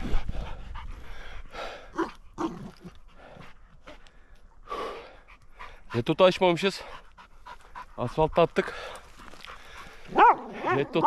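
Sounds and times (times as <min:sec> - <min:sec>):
dog panting: 0:00.0 - 0:02.1, 0:02.9 - 0:11.0.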